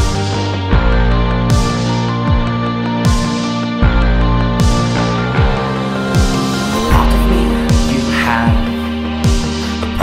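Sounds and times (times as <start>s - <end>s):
deep kick-drum beat: 0.0s - 9.6s.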